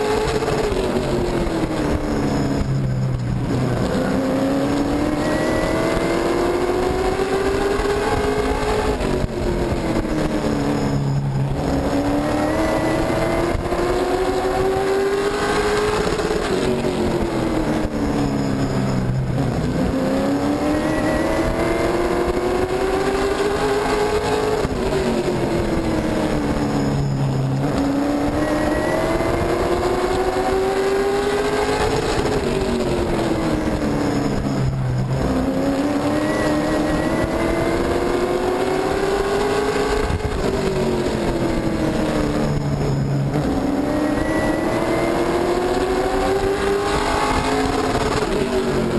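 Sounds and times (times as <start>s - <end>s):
race truck engine: 0.0s - 48.9s.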